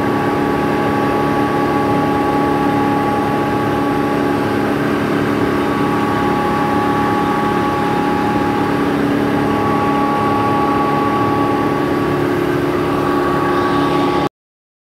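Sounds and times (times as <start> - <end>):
grinding machine drone: 0.0 - 14.3
held whining tones: 0.0 - 14.3.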